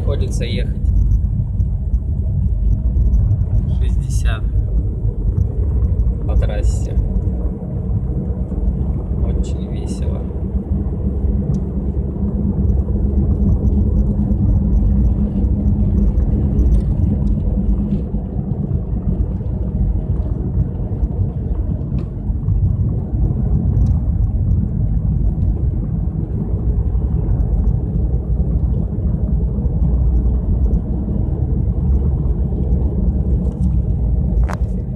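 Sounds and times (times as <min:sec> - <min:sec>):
car engine: 0:00.0 - 0:34.9
wind noise: 0:00.0 - 0:34.9.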